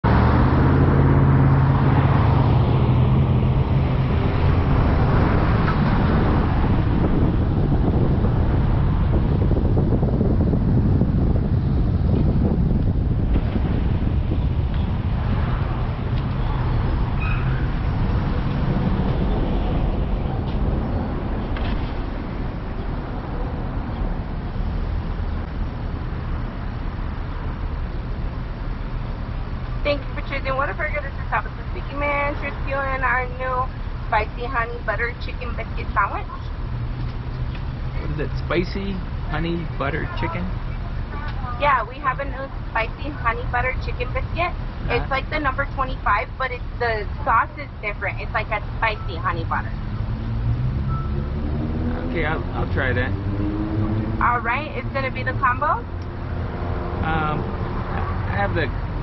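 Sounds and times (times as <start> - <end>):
car engine hum: 0.0 - 59.0
road rushing noise: 0.0 - 59.0.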